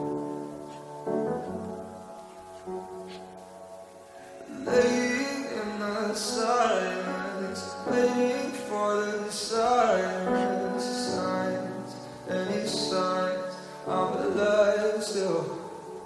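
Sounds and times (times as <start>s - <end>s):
song with singing voice: 0.0s - 16.0s.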